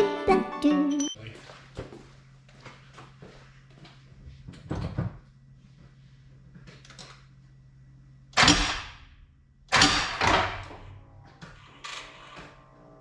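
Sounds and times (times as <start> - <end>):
steady low hum: 1.1 - 13.0.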